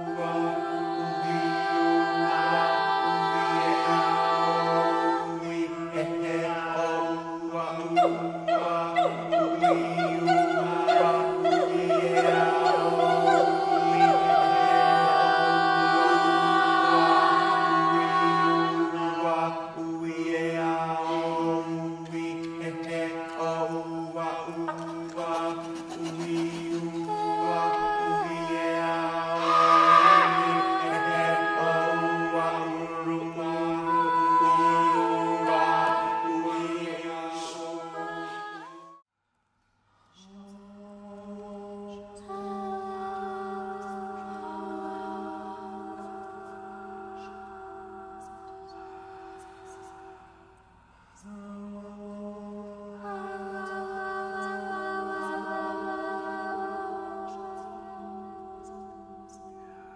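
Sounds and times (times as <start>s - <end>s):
vocal ensemble singing chords: 0.0s - 39.1s, 40.0s - 59.9s.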